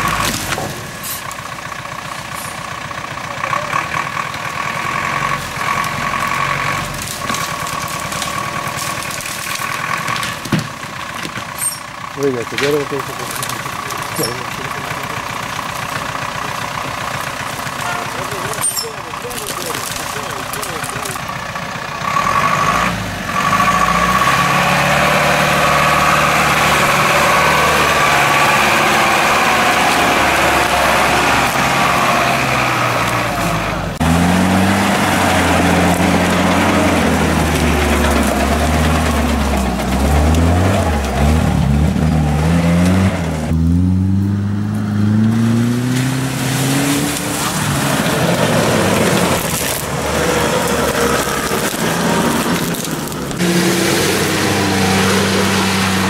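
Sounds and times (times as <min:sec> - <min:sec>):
off-road vehicle engine revving: 0:00.0 - 0:56.0
truck engine running: 0:00.0 - 0:56.0.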